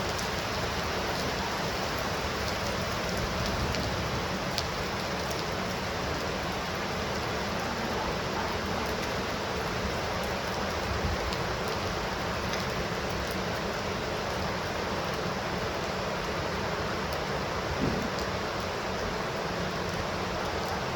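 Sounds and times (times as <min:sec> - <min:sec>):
heavy rain hiss: 0:00.0 - 0:20.9.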